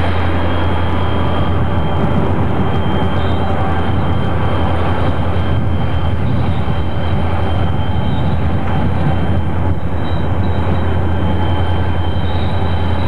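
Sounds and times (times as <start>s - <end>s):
diesel locomotive engine rumble: 0.0s - 13.0s
high wheel squeal: 0.0s - 13.0s
train running noise: 0.0s - 13.0s.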